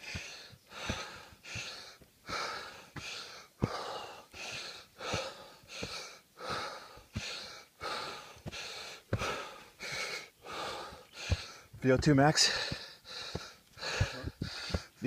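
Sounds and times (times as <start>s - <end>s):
dull footfall thuds: 0.0s - 15.0s
person breathing hard: 0.0s - 15.0s.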